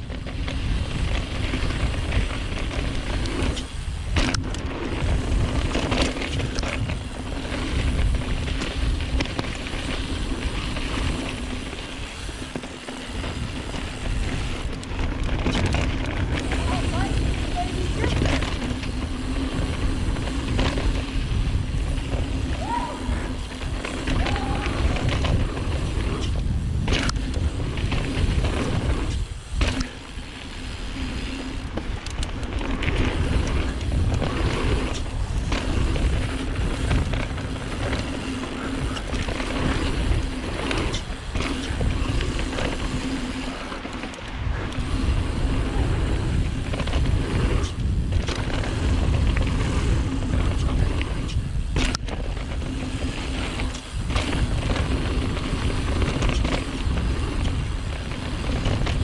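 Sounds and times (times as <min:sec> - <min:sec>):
bike knocking and rattling: 0:00.0 - 0:59.0
tyre noise on dirt: 0:00.0 - 0:59.0
wind rumbling on microphone: 0:00.0 - 0:59.0.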